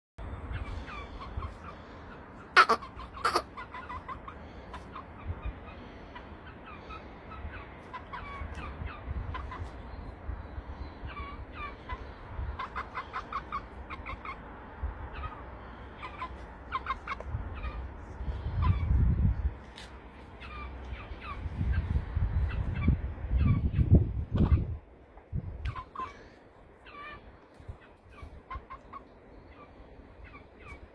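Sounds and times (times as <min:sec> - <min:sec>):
chicks peeping: 0:00.4 - 0:14.4, 0:15.0 - 0:24.8, 0:25.4 - 0:26.2, 0:26.8 - 0:30.9.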